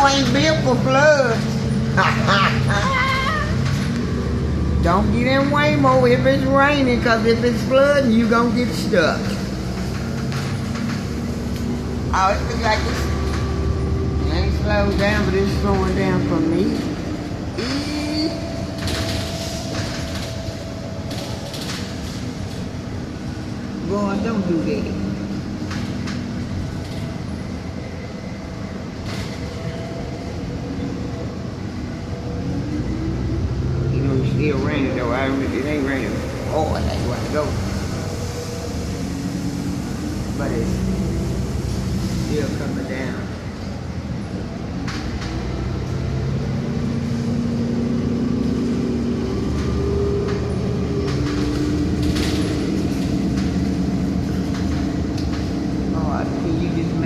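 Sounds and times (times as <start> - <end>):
bus running rumble: 0.0 - 57.0.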